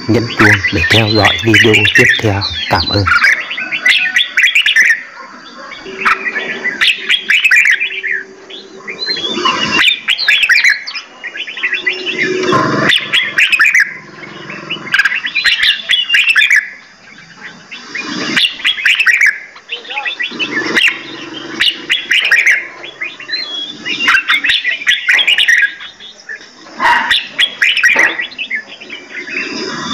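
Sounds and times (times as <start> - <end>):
songbirds singing and chirping: 0.0 - 29.9.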